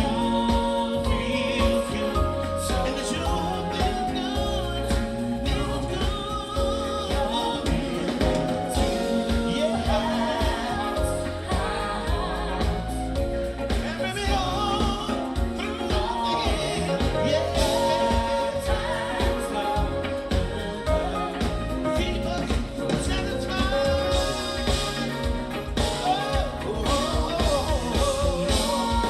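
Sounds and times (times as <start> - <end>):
live band playing soul-funk: 0.0 - 29.0
person singing: 0.0 - 29.0.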